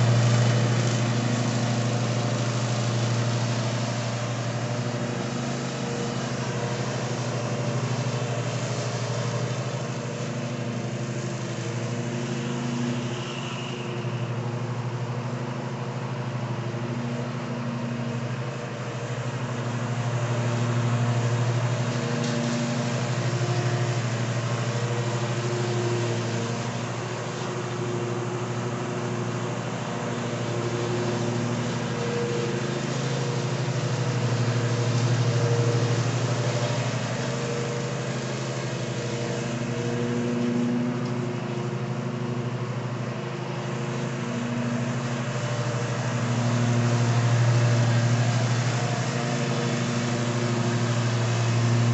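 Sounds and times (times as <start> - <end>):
lawn mower engine hum: 0.0 - 51.9.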